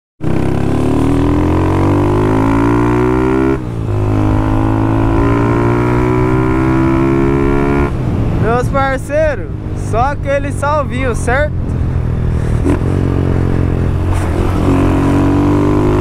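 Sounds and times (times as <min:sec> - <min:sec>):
motorcycle engine revving: 0:00.2 - 0:08.4, 0:09.4 - 0:16.0.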